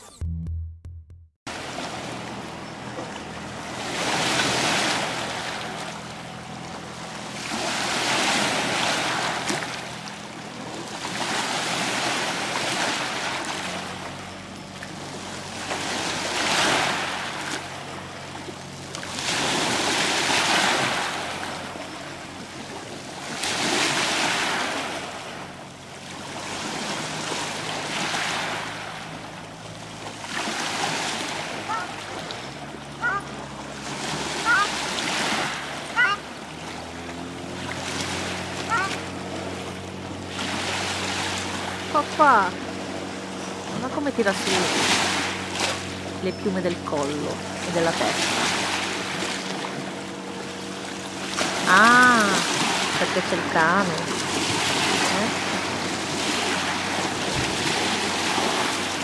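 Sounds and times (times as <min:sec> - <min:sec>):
water washing against shore: 0:01.5 - 0:59.0.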